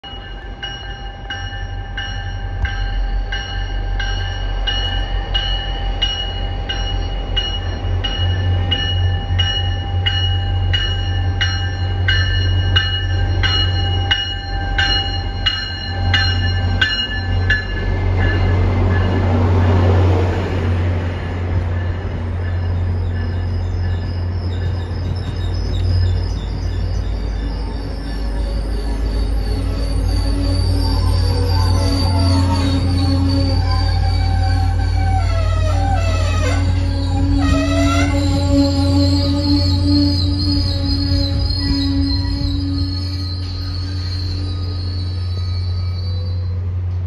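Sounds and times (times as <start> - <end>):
locomotive bell ringing: 0.0 - 46.7
train rolling past: 0.0 - 47.0.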